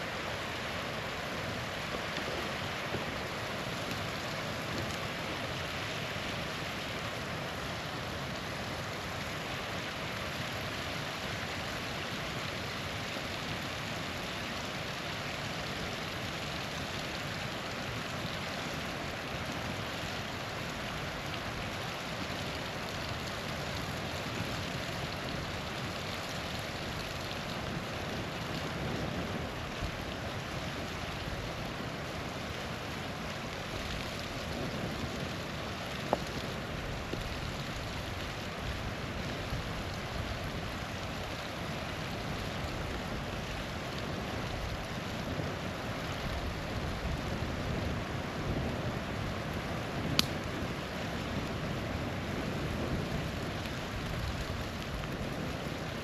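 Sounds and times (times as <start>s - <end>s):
campfire crackling: 0.0s - 56.0s
small waterfall rushing: 0.0s - 56.0s.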